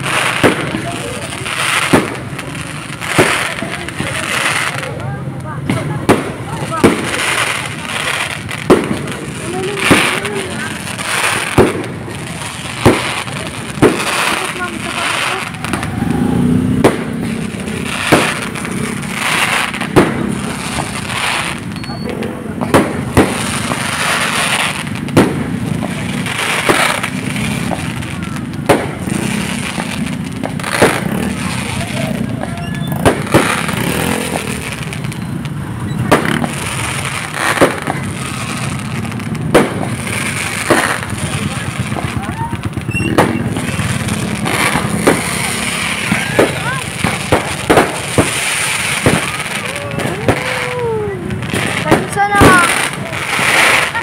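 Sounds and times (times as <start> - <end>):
firework shells bursting: 5.6 - 16.0, 16.6 - 54.0.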